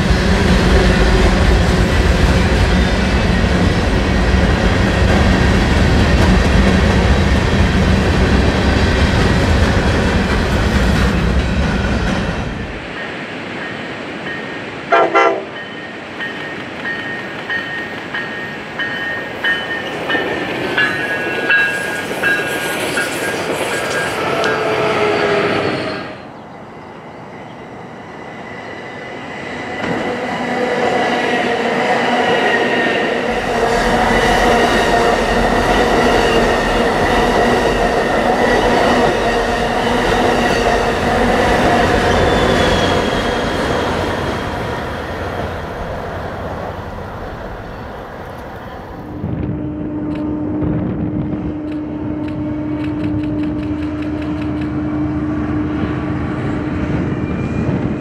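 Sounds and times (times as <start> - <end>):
diesel locomotive hum: 0.0 - 58.0
passenger train passing: 0.0 - 58.0
train rumble and high whine: 0.0 - 58.0.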